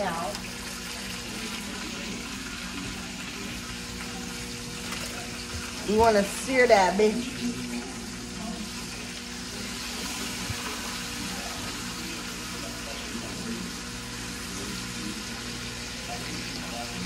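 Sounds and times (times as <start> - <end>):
steak sizzling in a frying pan: 0.0 - 17.0.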